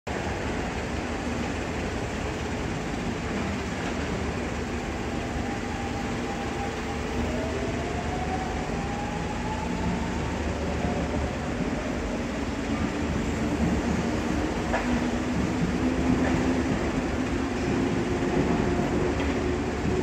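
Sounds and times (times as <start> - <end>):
train low rumble: 0.1 - 20.0.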